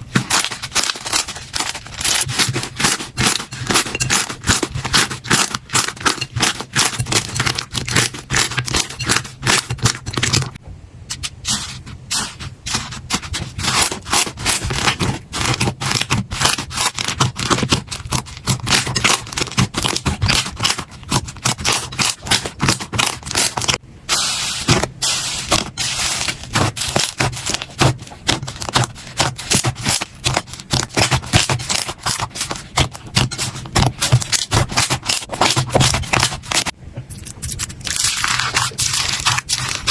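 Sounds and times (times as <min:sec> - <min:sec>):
slime scraping: 0:00.0 - 0:39.9.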